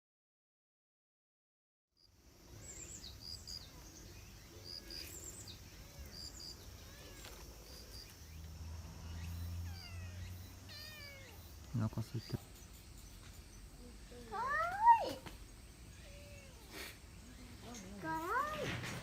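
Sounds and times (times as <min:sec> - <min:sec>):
small birds chirping: 0:02.0 - 0:19.0.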